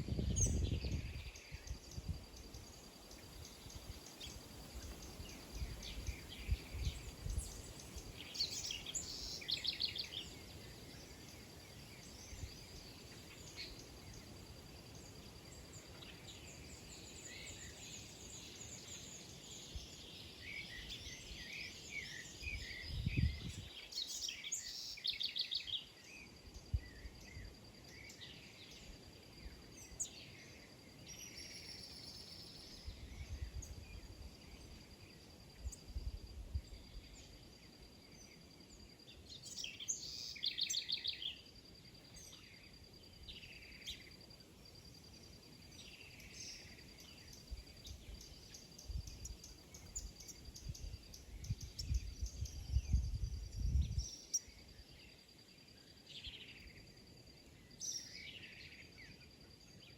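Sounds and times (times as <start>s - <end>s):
small birds chirping: 0.0s - 35.9s, 36.6s - 44.4s, 45.0s - 59.9s.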